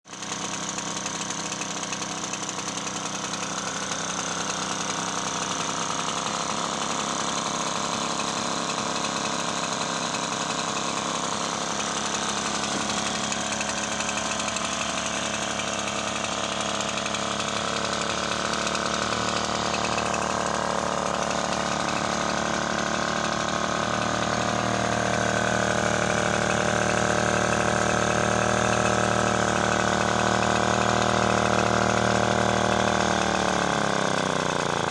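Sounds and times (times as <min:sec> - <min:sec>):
outboard motor running: 0:00.1 - 0:34.9.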